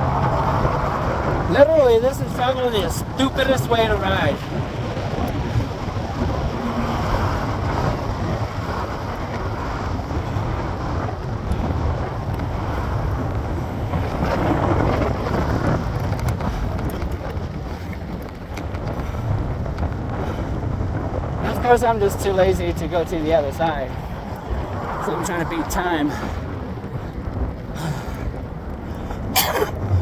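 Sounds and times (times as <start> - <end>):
road traffic noise: 0.0 - 30.0
wind on microphone: 0.0 - 30.0.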